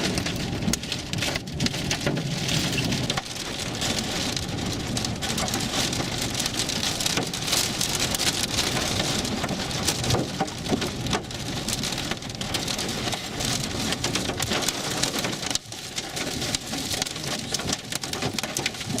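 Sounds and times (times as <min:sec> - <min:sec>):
rain and hail pelting down: 0:00.0 - 0:19.0.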